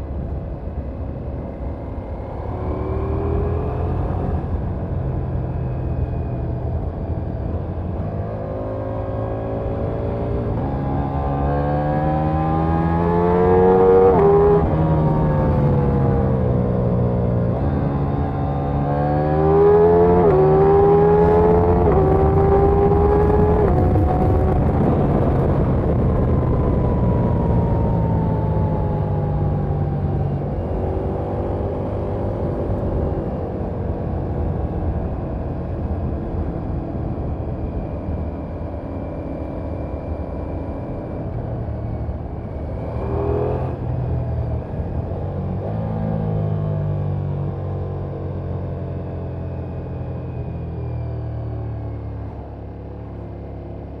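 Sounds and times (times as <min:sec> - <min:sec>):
motorcycle engine accelerating: 0:00.3 - 0:54.0.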